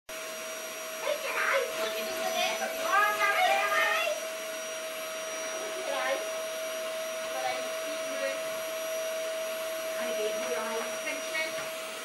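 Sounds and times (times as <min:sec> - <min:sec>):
vacuum cleaner running: 0:00.1 - 0:12.0.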